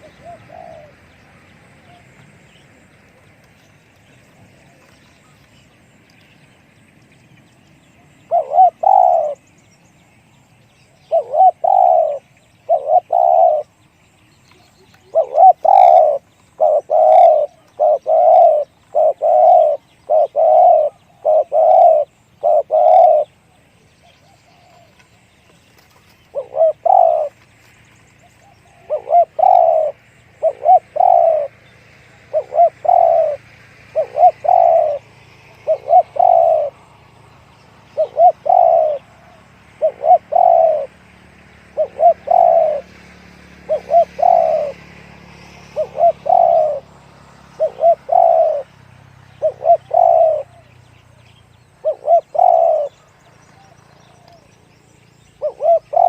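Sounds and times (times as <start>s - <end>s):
dove cooing: 0.0s - 2.7s, 8.0s - 9.5s, 11.0s - 13.8s, 14.5s - 25.0s, 25.8s - 27.4s, 28.3s - 48.7s, 49.3s - 54.6s, 55.2s - 56.0s.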